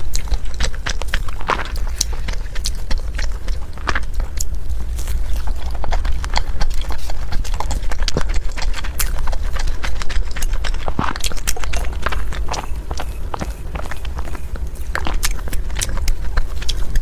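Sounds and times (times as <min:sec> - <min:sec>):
chewing with wet mouth clicks: 0:00.0 - 0:17.0
steady low hum: 0:00.0 - 0:17.0.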